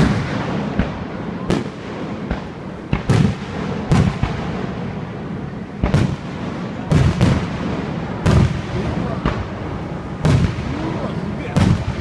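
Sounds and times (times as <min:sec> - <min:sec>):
firework shells booming: 0:00.0 - 0:12.0.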